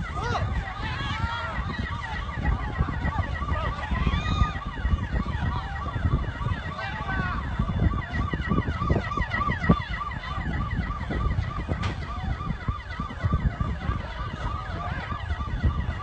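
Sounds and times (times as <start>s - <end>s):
constant low rumble: 0.0s - 16.0s
emergency sirens yelping: 0.0s - 16.0s.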